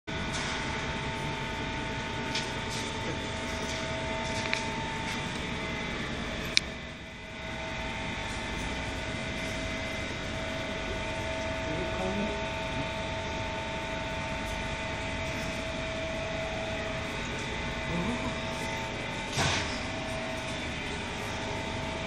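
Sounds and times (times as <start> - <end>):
oven machine hum: 0.1 - 22.0.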